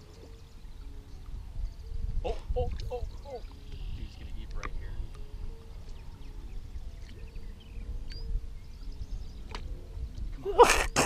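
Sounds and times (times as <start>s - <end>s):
faint bird chirps: 0.0s - 9.7s
wind rumble on microphone: 0.0s - 11.0s.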